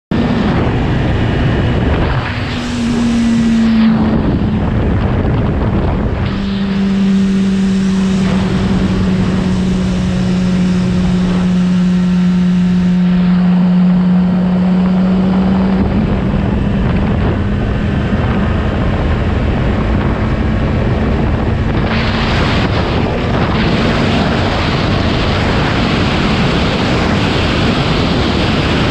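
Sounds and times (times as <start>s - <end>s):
motorcycle engine running: 0.1s - 28.9s
wind noise on microphone: 0.1s - 28.9s.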